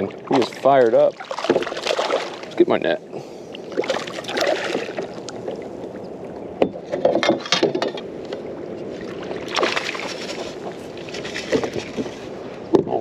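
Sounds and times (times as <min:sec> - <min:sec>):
water: 0:00.0 - 0:13.0.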